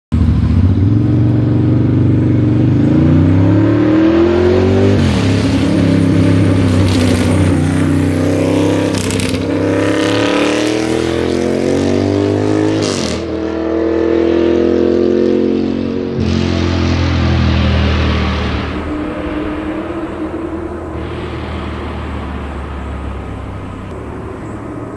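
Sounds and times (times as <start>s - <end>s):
motorcycle engine revving: 0.1s - 24.9s.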